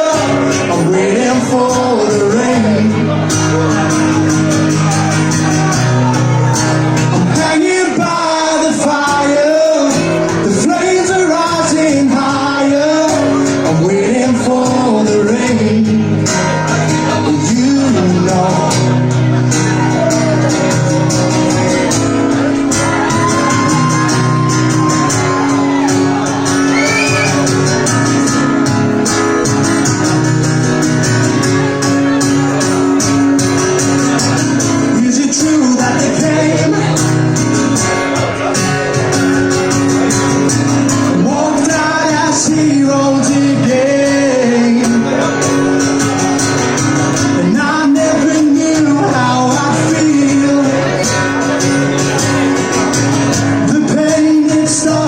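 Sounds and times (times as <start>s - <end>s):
man singing loudly: 0.0s - 27.6s, 34.6s - 39.0s, 40.9s - 52.5s, 53.4s - 55.0s
live band playing guitar-pop: 0.0s - 55.0s.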